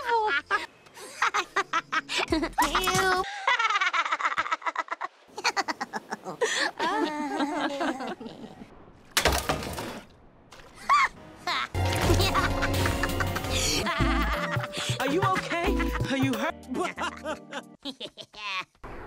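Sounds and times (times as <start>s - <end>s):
woman laughing: 0.0s - 8.7s, 10.8s - 18.8s.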